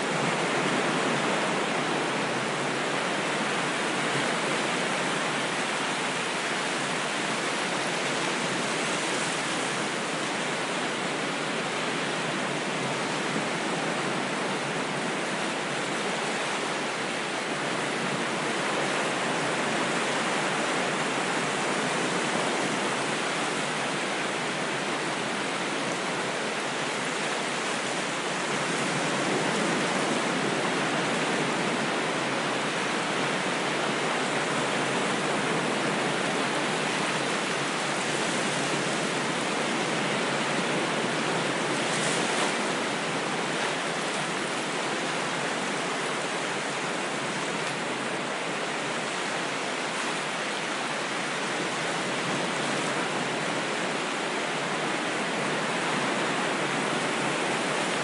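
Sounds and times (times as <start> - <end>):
surf washing: 0.0 - 58.0.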